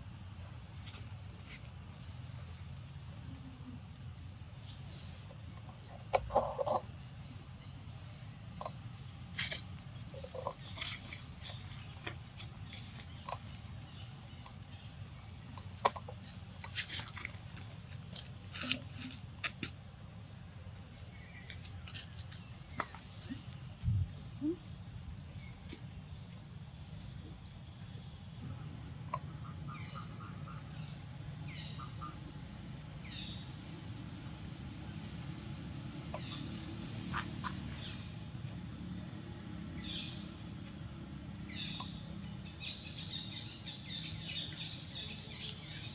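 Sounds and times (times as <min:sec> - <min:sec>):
steady low rumble: 0:00.0 - 0:45.9.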